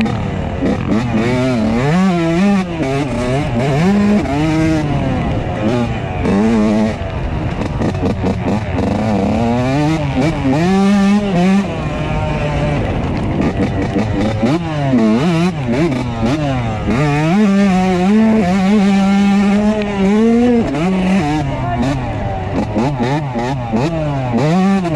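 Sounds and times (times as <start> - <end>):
two-stroke motorcycle engine revving: 0.0 - 24.9.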